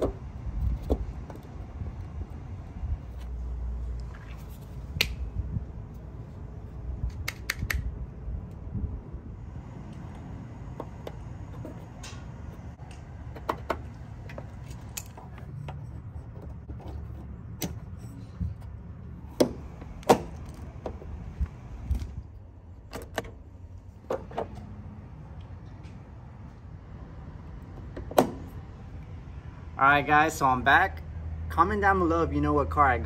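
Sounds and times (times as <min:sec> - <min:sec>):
steady low rumble: 0:00.0 - 0:30.6.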